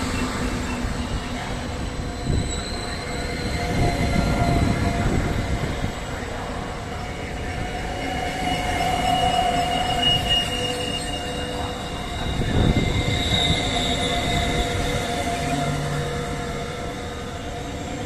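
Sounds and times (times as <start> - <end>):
high squealing tones: 0.0 - 18.0
train wheels rumbling on rail: 0.0 - 18.0.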